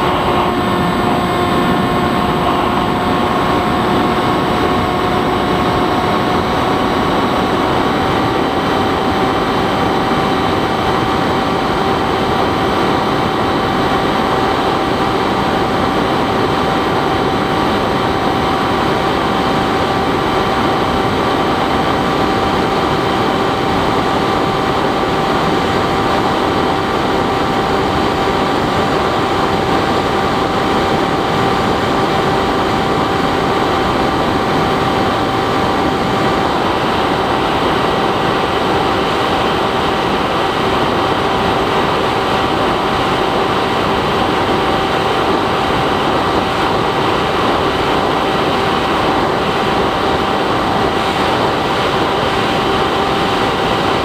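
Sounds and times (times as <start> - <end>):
model plane motor humming: 0.0 - 54.0
wind rush: 0.0 - 54.0.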